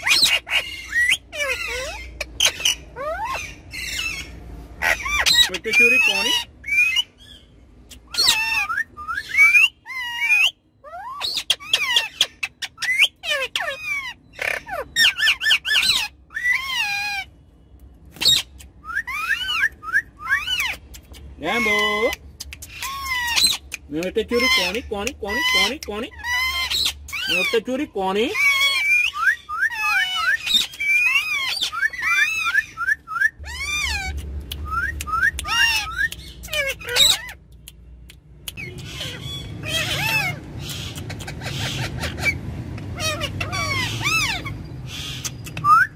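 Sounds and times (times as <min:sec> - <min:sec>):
parrots squawking: 0:00.0 - 0:17.4, 0:18.1 - 0:37.6, 0:38.5 - 0:45.9.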